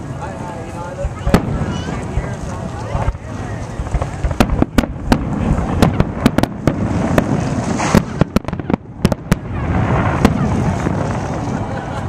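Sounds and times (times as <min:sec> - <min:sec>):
continuous low rumble: 0:00.0 - 0:12.0
fireworks bangs: 0:00.9 - 0:12.0.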